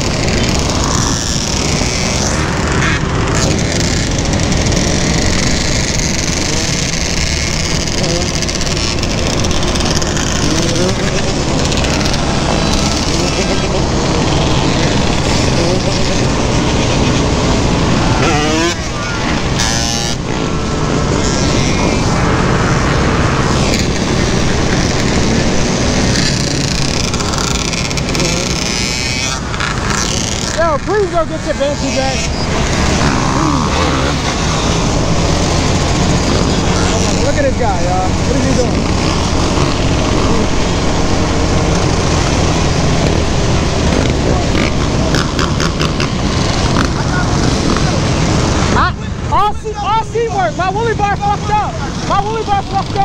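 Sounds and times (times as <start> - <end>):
dirt bikes and quads running: 0.0 - 53.0
quad engine running: 0.0 - 53.0.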